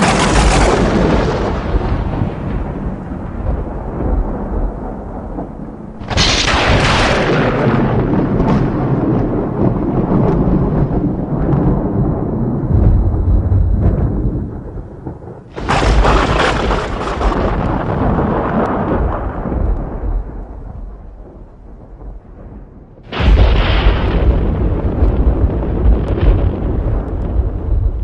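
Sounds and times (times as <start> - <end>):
thunder cracking and rumbling: 0.0 - 28.0.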